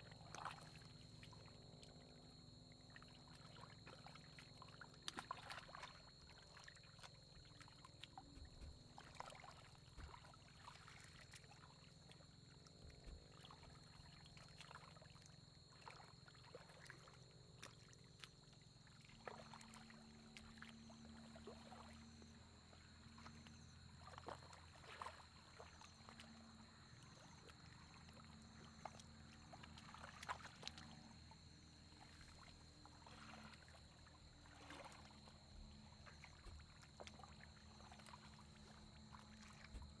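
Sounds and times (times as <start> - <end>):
muddy water sloshing: 0.0 - 40.0.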